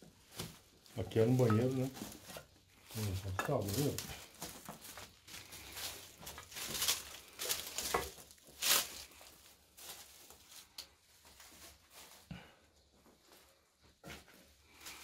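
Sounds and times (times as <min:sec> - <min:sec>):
footsteps crunching over straw: 0:00.0 - 0:15.0
rustling: 0:00.0 - 0:15.0.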